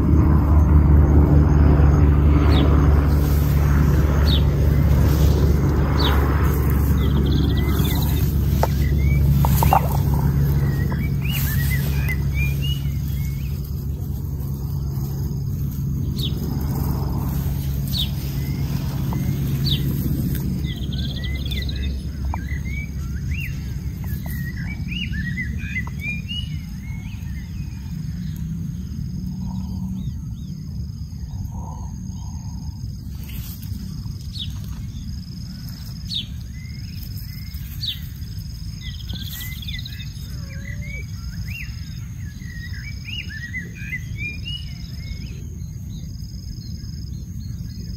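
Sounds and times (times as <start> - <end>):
steady low rumble: 0.0 - 47.9
small birds chirping: 1.5 - 47.9.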